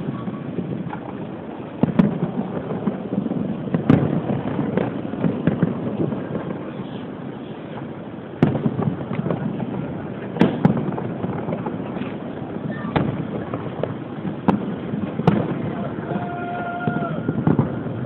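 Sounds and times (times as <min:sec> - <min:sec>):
firework shells bursting: 0:00.0 - 0:18.0
low background rumble: 0:00.0 - 0:18.0
small firework pops: 0:00.0 - 0:18.0.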